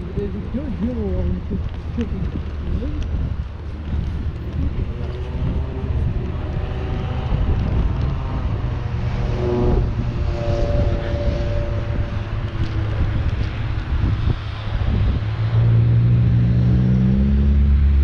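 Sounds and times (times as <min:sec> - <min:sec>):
engine rumble: 0:00.0 - 0:18.0
whining tones shifting in pitch: 0:03.4 - 0:18.0.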